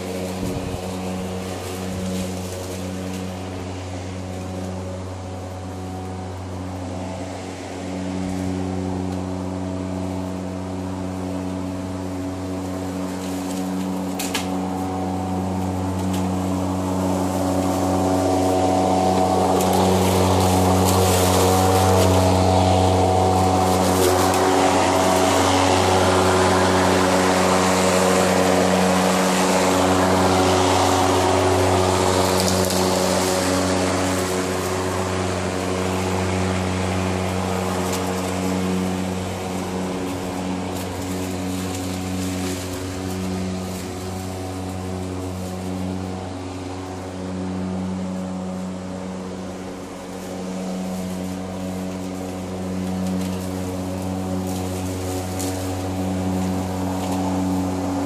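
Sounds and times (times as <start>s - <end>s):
lawn mower humming: 0.0s - 58.0s.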